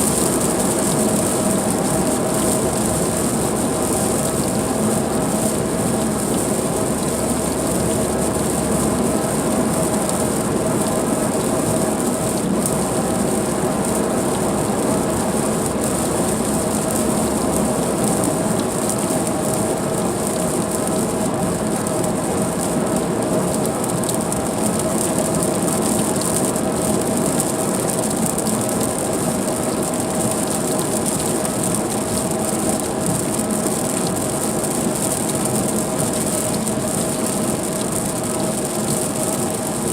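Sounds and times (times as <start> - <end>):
rain and spray hissing: 0.0 - 39.9.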